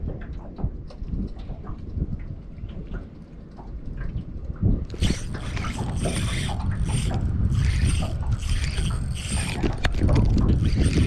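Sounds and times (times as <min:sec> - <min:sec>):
boat engine rumble: 0:00.0 - 0:11.0
wind: 0:00.0 - 0:11.0.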